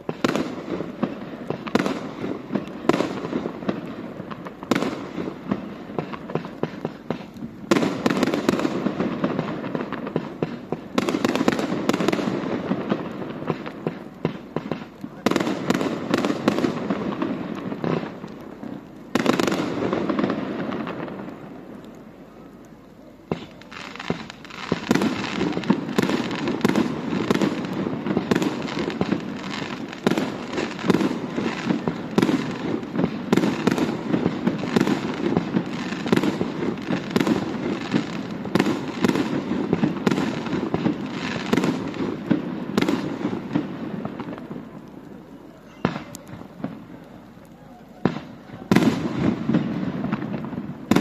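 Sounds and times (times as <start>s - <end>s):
fireworks bangs: 0.0s - 51.0s
fireworks crackling: 0.0s - 51.0s.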